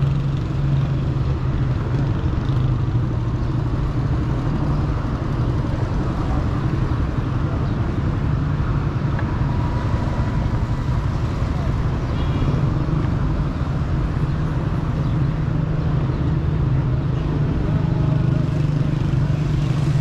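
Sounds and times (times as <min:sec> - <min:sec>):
street traffic hum: 0:00.0 - 0:20.0.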